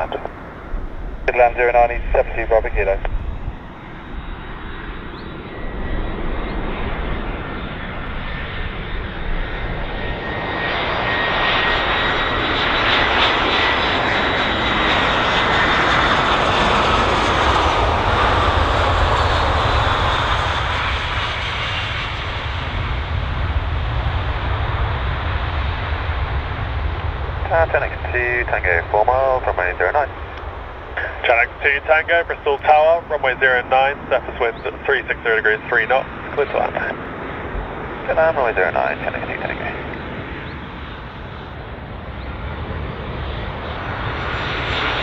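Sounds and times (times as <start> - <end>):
jet airliner passing: 0.0 - 45.0.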